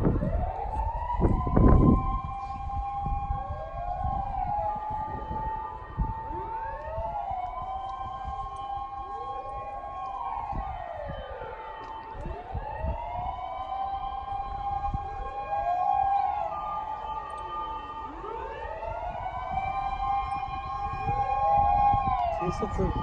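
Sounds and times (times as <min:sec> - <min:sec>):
sirens wailing: 0:00.0 - 0:23.0.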